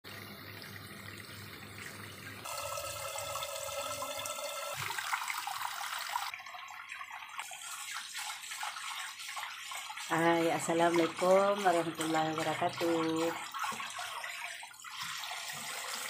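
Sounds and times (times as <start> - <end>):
tap water splashing in sink: 2.7 - 16.0.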